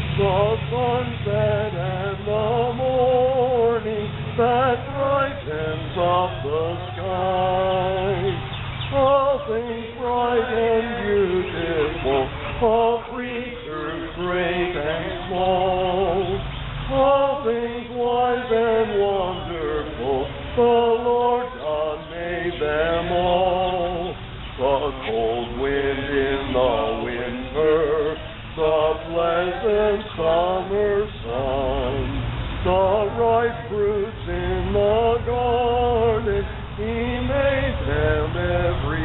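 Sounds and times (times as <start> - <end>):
group singing a hymn: 0.0 - 39.0.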